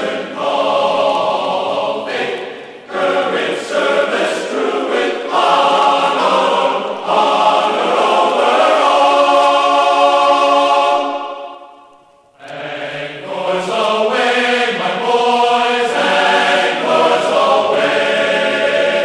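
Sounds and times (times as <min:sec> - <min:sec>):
chanted singing in long notes: 0:00.0 - 0:19.0.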